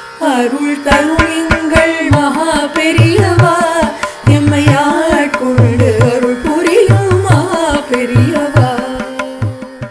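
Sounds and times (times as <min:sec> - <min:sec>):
person singing devotional song: 0:00.0 - 0:09.9.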